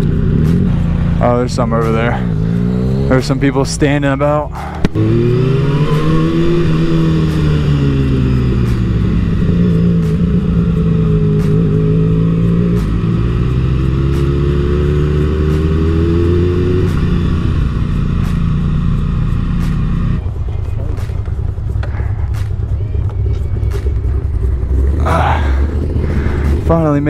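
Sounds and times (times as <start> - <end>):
motorcycle engine at low revs: 0.0 - 27.0.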